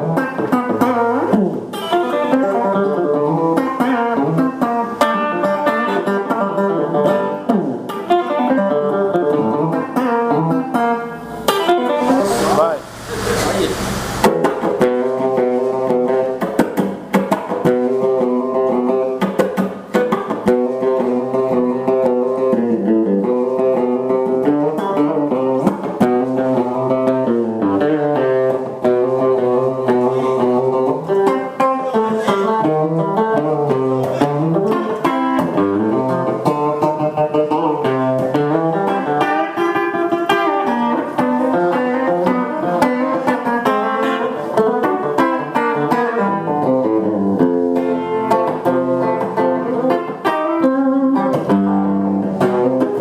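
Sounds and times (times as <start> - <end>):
electric guitar licks and chords: 0.0 - 53.0.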